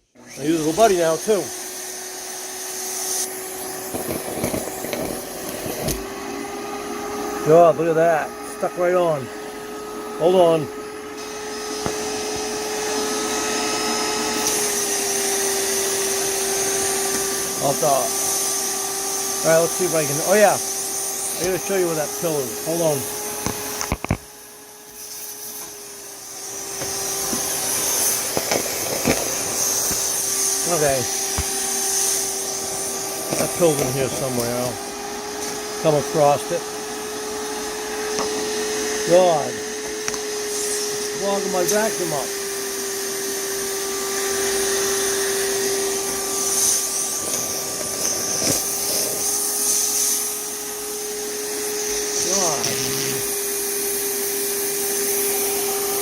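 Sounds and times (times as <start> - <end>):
shop vac motor hum: 0.0 - 56.0
suction hiss: 0.0 - 56.0.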